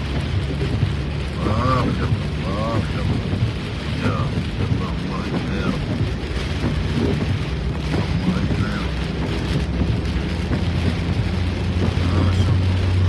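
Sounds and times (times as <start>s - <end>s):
engine hum: 0.0s - 13.0s
rain on car: 0.0s - 13.0s
tyres on wet road: 0.0s - 13.0s.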